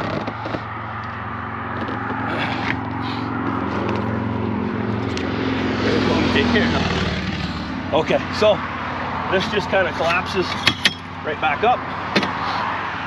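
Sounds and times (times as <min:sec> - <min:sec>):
engine hum: 0:00.0 - 0:13.0.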